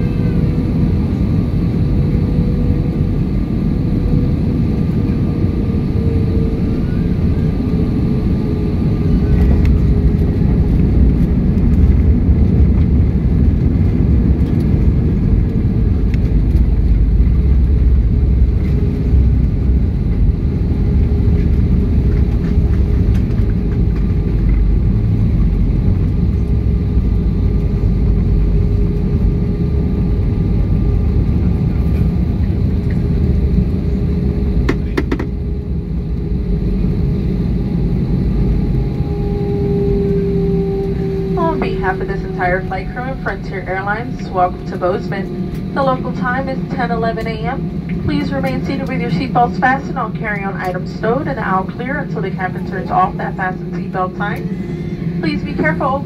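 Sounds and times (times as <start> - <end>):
aircraft engines and wheels rumbling: 0.0 - 56.0
steady cabin hum: 0.0 - 56.0.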